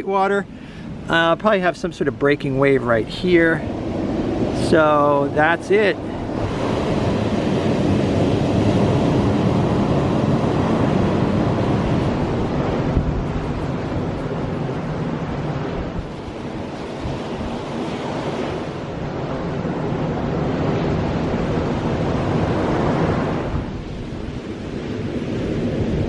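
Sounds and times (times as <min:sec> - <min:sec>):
ocean surf on beach: 0:00.0 - 0:26.0
wind buffeting microphone: 0:00.8 - 0:26.0.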